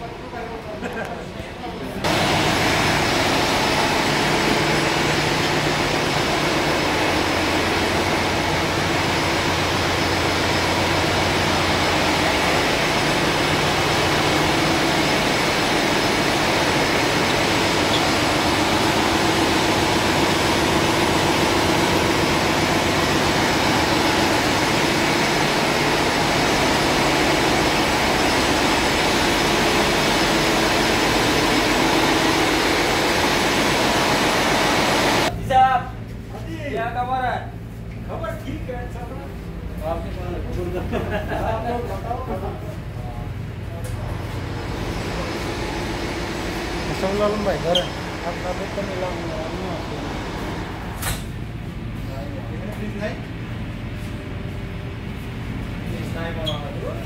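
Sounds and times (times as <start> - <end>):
engine-room machinery drone: 0.0 - 57.0.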